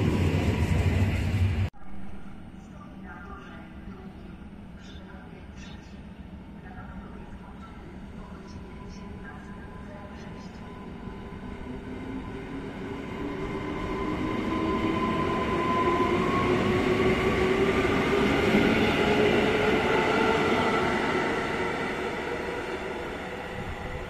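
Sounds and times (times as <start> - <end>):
train rail running noise: 0.0 - 24.0.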